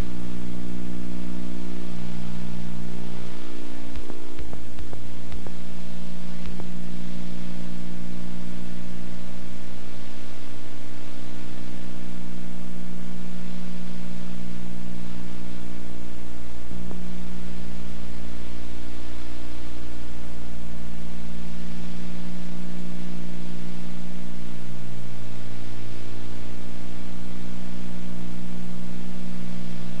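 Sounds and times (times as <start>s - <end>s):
electrical hum: 0.0s - 30.0s
tape hiss: 0.0s - 30.0s.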